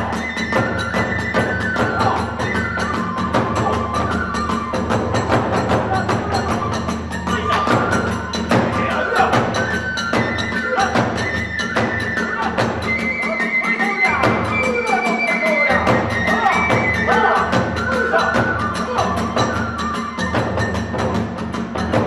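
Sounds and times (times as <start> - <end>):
bamboo flute long high notes: 0.0 - 21.4
drums in fast rhythm: 0.0 - 22.0.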